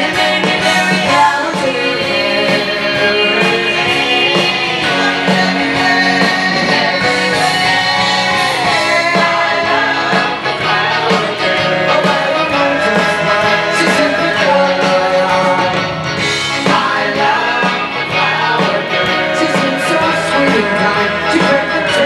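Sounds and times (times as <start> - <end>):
live band playing pop song: 0.0 - 22.0
person singing: 0.0 - 22.0.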